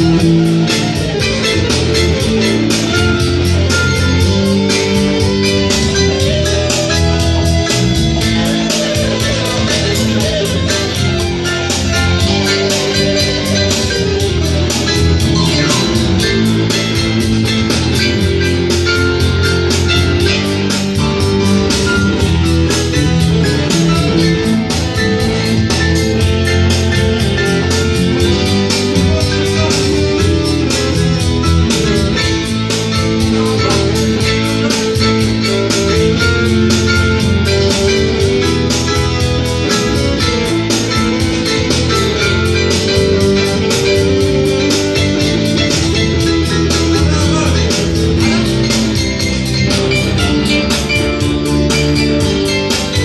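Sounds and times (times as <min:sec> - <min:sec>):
live guitar music: 0:00.0 - 0:53.0.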